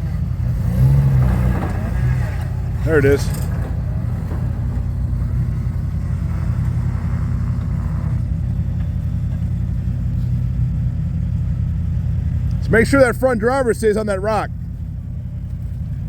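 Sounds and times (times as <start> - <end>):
truck engine idling low: 0.0 - 16.0.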